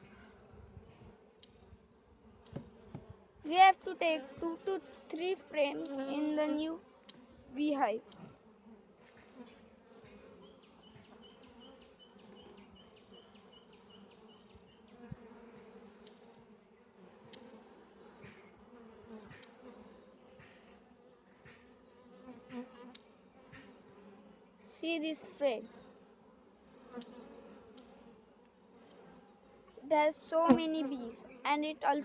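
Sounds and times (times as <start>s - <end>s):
honeybees buzzing: 0.0s - 32.0s.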